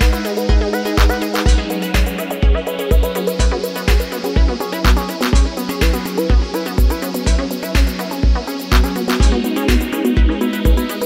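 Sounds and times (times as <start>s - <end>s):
kick drum: 0.0s - 10.9s
electronic dance music: 0.0s - 11.0s
hi-hats ticking: 0.0s - 11.0s.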